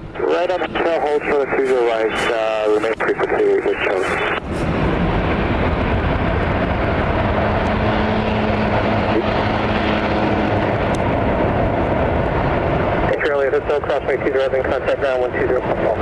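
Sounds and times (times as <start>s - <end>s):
airplane engines roaring: 0.0s - 16.0s.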